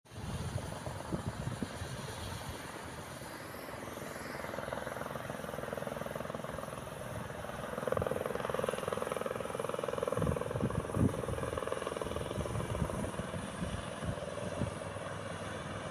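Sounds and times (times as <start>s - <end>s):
helicopter rotor beating: 0.2s - 15.9s.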